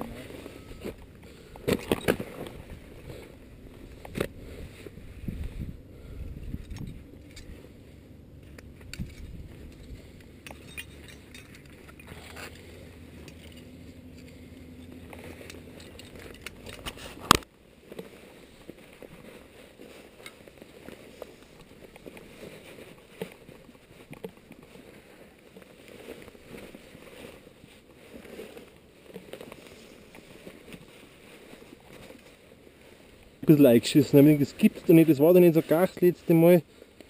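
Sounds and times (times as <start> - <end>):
carabiners clinking and scraping: 0.0 - 4.9, 6.4 - 32.6, 33.2 - 36.7.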